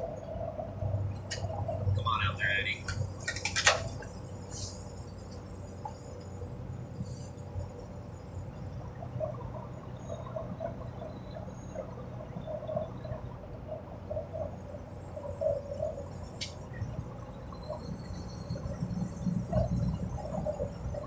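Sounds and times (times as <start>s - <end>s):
truck engine low drone: 0.0s - 21.0s.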